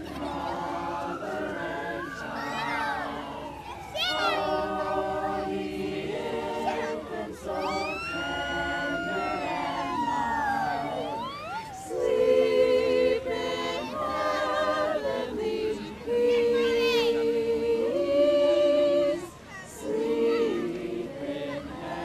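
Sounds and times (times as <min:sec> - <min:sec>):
crowd singing a carol: 0:00.0 - 0:22.0.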